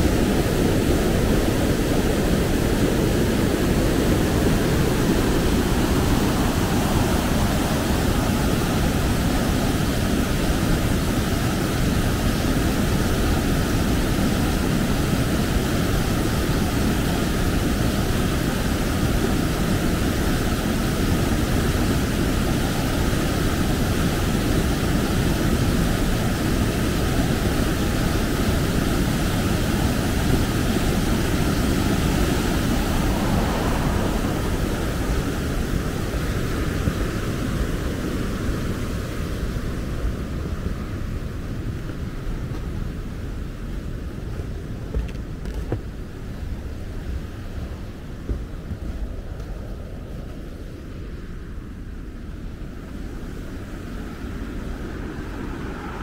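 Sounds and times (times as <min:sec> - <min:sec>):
waterfall and rapids rushing: 0:00.0 - 0:56.0.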